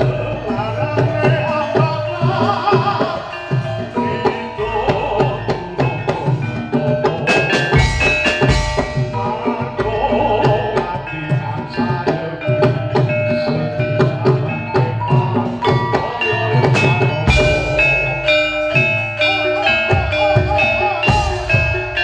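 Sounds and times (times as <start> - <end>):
bronze metallophones ringing: 0.0 - 22.0
drum strokes: 0.0 - 22.0.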